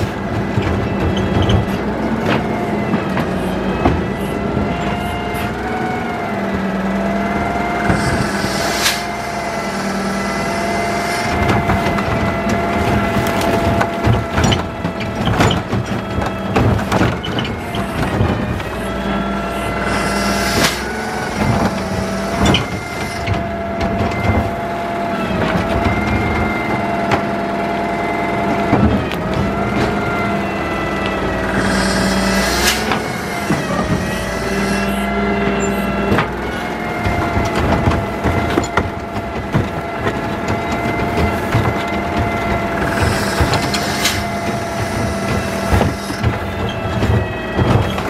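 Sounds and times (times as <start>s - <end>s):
cart and arm clattering: 0.0s - 48.0s
hydraulics whining: 0.0s - 48.0s
truck engine running: 0.0s - 48.0s.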